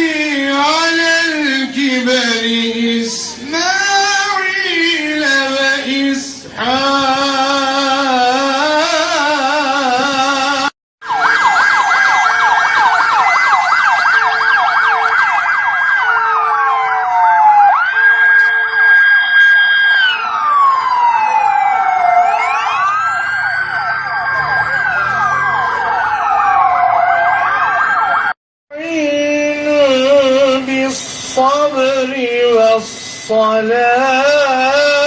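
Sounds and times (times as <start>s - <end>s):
emergency vehicle sirens: 0.0s - 28.4s, 29.2s - 35.0s.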